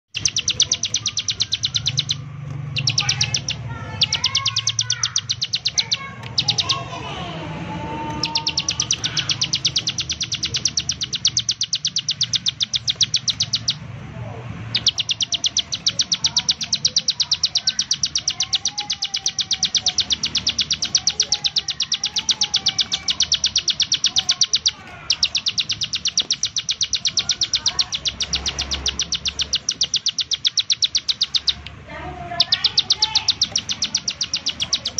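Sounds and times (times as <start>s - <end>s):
bird song fast high notes: 0.0s - 13.8s, 14.6s - 31.7s
soft warbling chirps: 0.0s - 34.9s.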